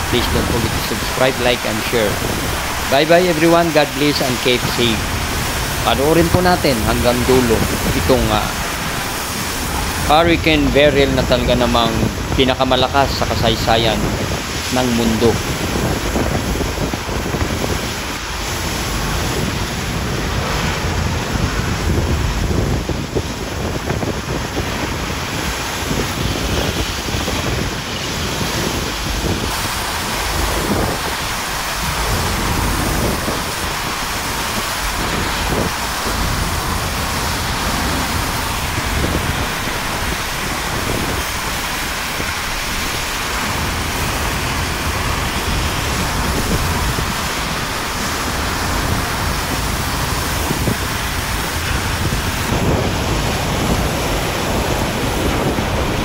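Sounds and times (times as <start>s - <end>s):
driving rain: 0.0s - 56.0s
strong wind: 0.0s - 56.0s
wind buffeting microphone: 0.0s - 56.0s.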